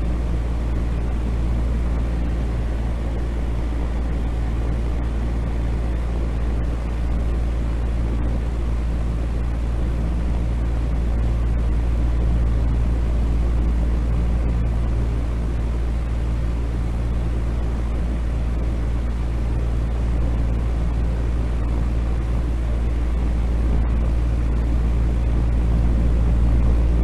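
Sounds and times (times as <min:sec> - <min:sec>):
deep steady rumble: 0:00.0 - 0:27.0.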